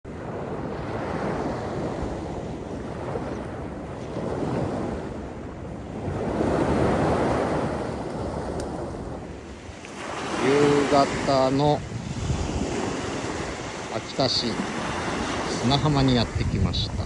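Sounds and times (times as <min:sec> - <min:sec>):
small waves breaking on beach: 0:00.1 - 0:17.0.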